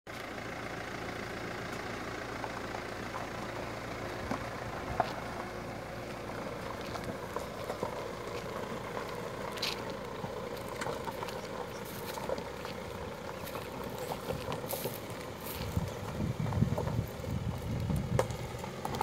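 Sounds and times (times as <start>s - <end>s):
pickup engine running: 0.1s - 19.0s.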